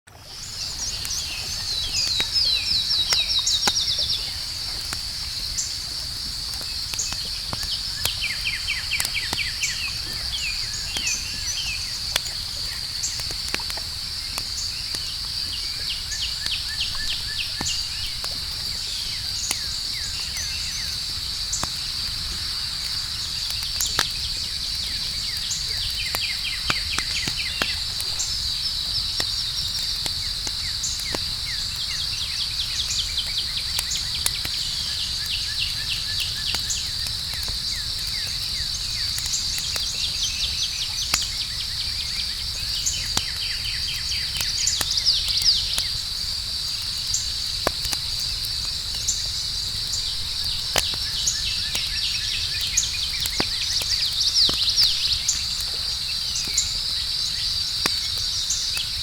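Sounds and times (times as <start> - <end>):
campfire crackling and popping: 0.1 - 59.0
night insects droning: 0.1 - 59.0.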